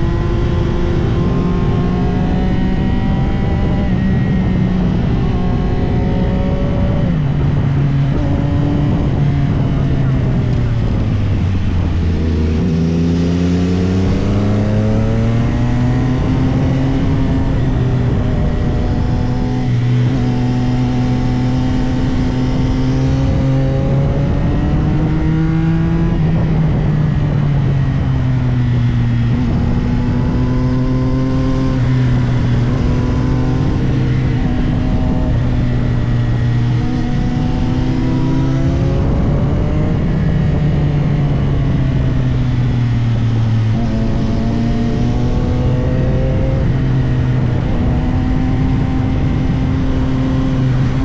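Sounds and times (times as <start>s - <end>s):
motorcycle engine under way: 0.0s - 51.0s.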